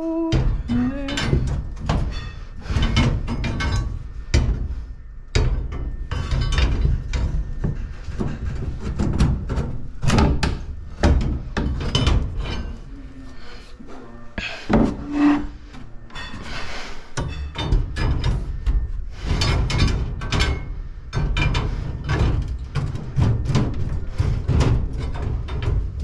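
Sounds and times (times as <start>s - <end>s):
knocks and thumps: 0.2s - 12.7s, 17.2s - 26.0s.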